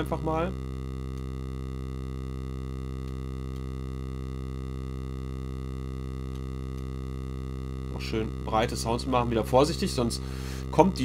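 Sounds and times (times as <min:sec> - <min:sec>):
low sustained synthesizer tone: 0:00.0 - 0:11.0.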